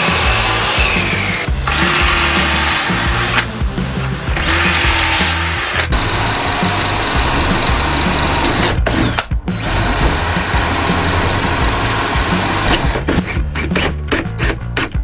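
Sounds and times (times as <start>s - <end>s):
power drill running: 0.0s - 13.0s
background music: 0.0s - 15.0s.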